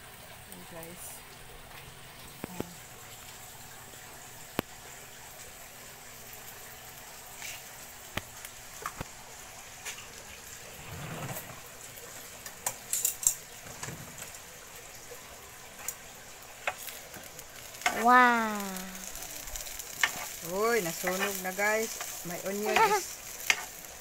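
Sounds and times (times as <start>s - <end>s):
eggs and onions sizzling in a pan: 0.0s - 24.0s.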